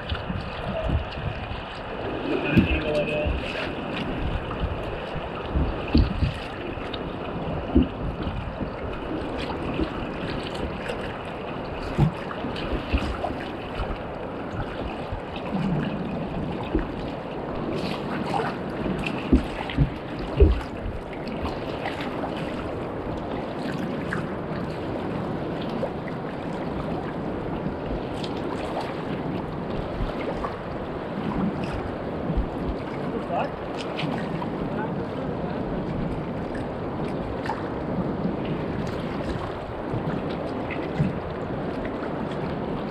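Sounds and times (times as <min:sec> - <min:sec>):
ocean surf: 0:00.0 - 0:42.9
wind buffeting microphone: 0:00.0 - 0:42.9.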